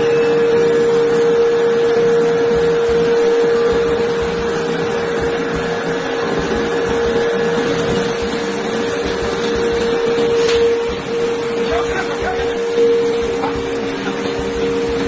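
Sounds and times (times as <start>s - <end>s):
rolling mill humming and whining: 0.0s - 15.0s.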